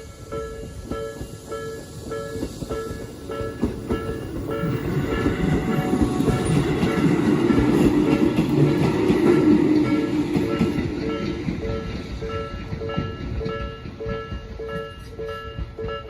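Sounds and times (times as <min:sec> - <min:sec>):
train rumble and wheel clatter: 0:00.0 - 0:16.0.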